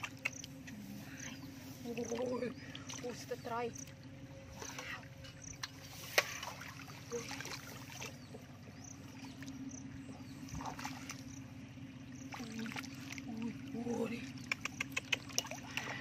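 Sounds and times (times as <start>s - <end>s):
low steady hum: 0.0s - 16.0s
muddy water splashing: 0.0s - 16.0s.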